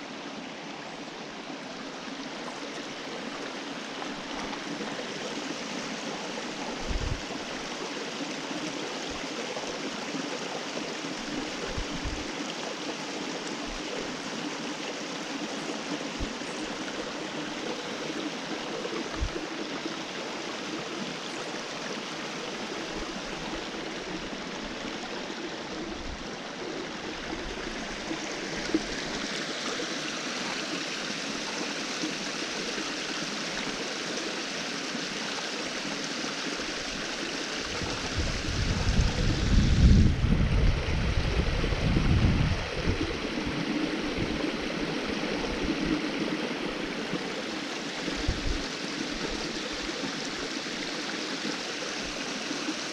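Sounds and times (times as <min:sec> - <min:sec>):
water rushing over rocks: 0:00.0 - 0:52.9.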